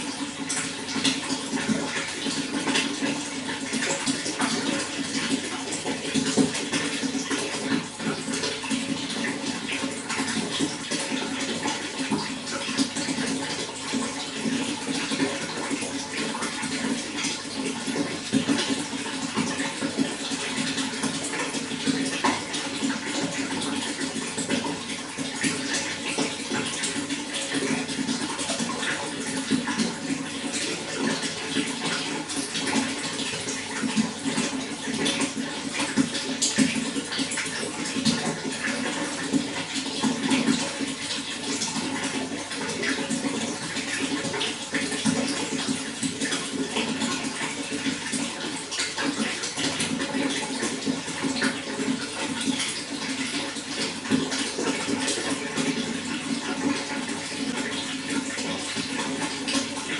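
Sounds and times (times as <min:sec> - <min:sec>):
running water splashing and bubbling: 0:00.0 - 0:59.9.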